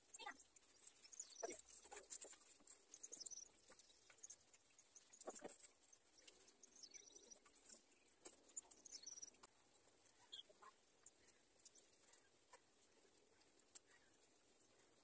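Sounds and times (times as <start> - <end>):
faint bird chirps: 0.0 - 12.4.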